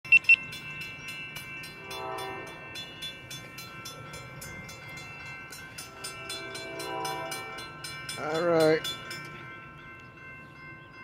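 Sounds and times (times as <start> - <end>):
crossing warning bell ringing: 0.0 - 11.0.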